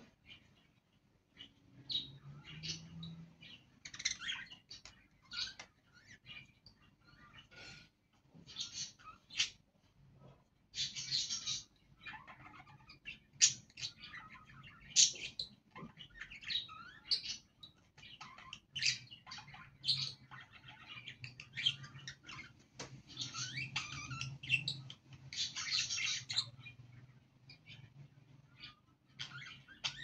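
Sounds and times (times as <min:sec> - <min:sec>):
budgerigars chattering: 0:01.4 - 0:07.9, 0:10.8 - 0:30.0.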